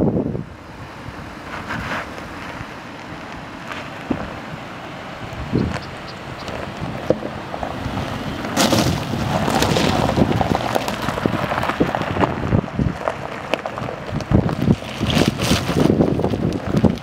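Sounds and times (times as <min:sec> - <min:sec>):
tyres crunching on gravel: 0:01.4 - 0:17.0.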